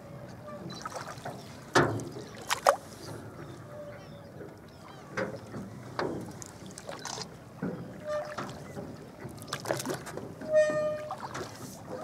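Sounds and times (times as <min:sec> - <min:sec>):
light water sounds: 0:00.0 - 0:12.0.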